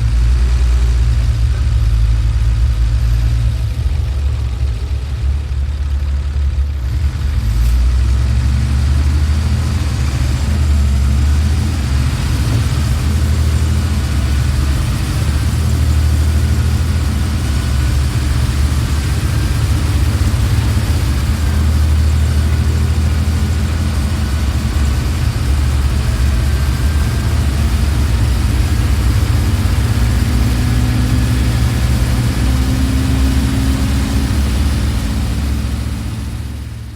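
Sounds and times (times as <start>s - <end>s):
bus engine droning: 0.0s - 36.9s.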